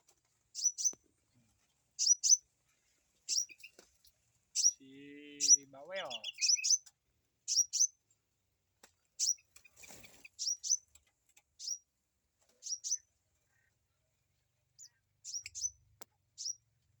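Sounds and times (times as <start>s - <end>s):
small birds chirping: 0.4s - 8.2s, 9.0s - 17.0s.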